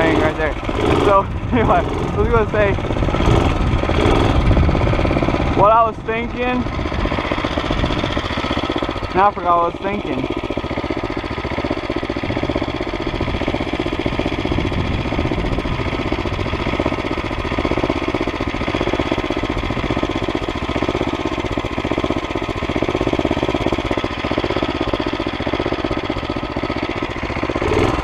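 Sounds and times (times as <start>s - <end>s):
mini bike engine running: 0.0s - 28.0s.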